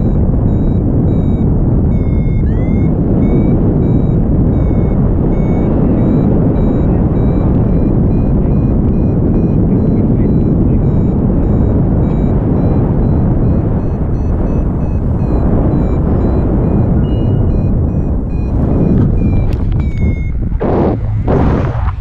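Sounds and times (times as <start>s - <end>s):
variometer beeping: 0.0s - 21.7s
wind rushing over microphone: 0.0s - 22.0s.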